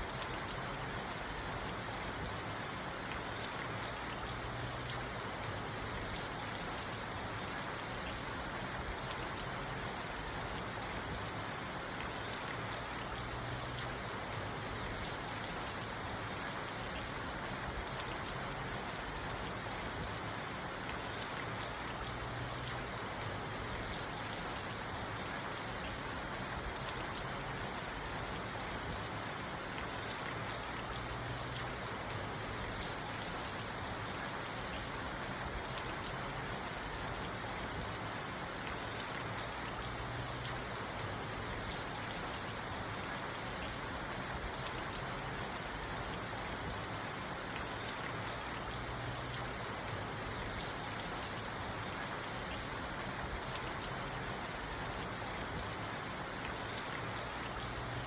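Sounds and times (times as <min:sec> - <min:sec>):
rain pattering on a car: 0:00.0 - 0:58.0.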